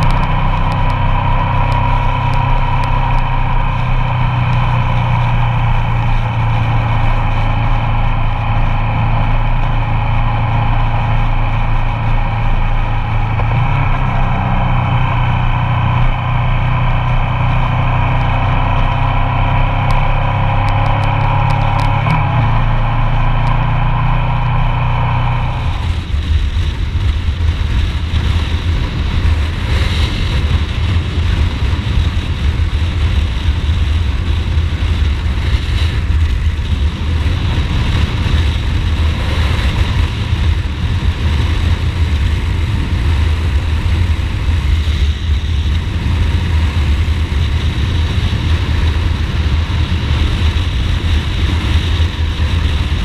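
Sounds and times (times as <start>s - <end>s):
motorcycle engine running: 0.0s - 53.0s
wind noise on microphone: 0.0s - 53.0s.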